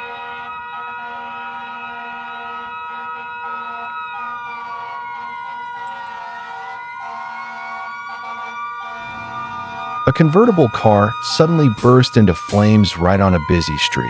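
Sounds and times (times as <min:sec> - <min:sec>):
emergency vehicle siren wailing: 0:00.0 - 0:14.0
second lower siren tone: 0:00.0 - 0:14.0.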